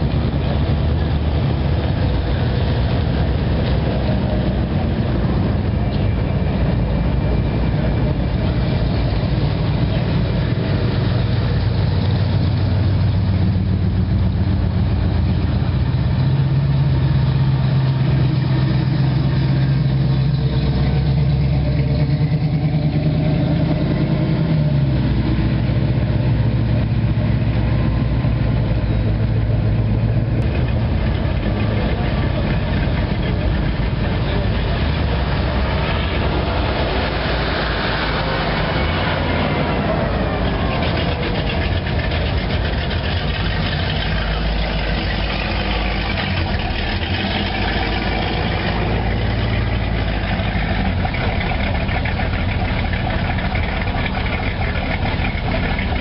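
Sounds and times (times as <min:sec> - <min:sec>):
vehicle engines rumbling: 0:00.0 - 0:56.0.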